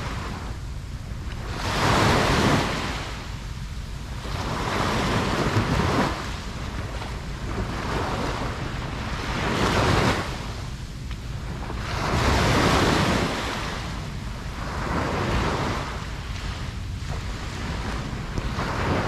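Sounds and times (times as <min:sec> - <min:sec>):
low rumble of surf: 0:00.0 - 0:19.0
ocean waves breaking: 0:00.0 - 0:19.0
wind buffeting microphone: 0:00.0 - 0:19.0.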